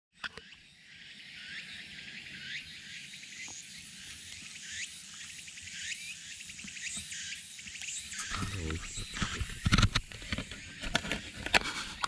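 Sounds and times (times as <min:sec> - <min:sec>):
insects chirring: 0:00.4 - 0:12.0.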